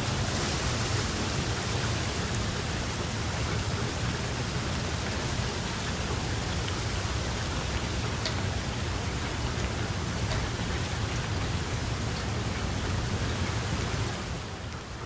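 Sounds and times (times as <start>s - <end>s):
distinct raindrops: 0.0s - 15.0s
steady rain hissing: 0.0s - 15.0s.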